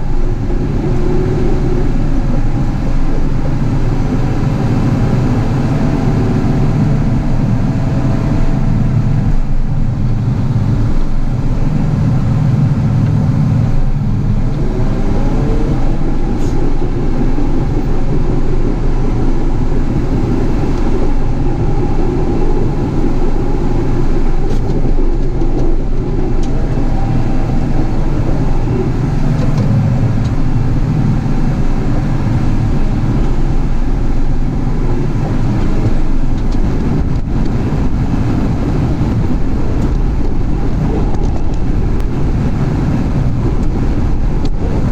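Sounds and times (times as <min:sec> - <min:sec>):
track loader diesel engine: 0:00.0 - 0:44.9.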